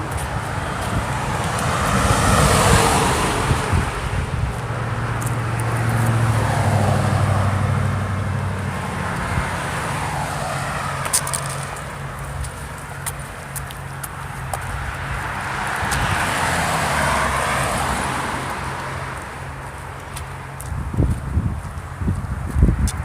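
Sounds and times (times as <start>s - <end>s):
cars passing close by: 0.0s - 23.0s.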